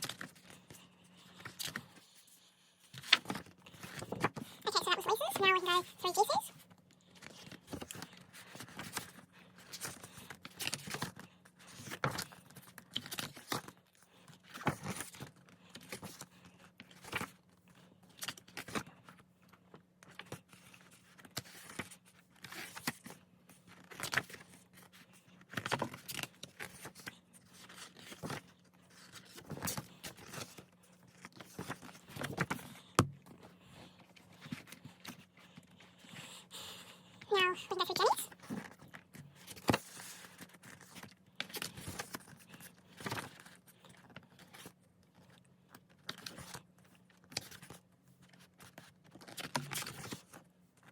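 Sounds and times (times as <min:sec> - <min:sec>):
book pages turning: 0:00.0 - 0:36.3, 0:37.3 - 0:50.4.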